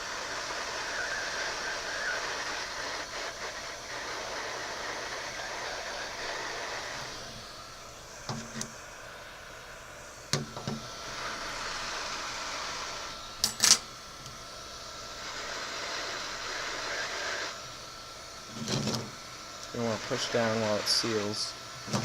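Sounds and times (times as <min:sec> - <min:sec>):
faint steady whine: 0:00.0 - 0:22.0
heat gun blowing: 0:00.0 - 0:22.0.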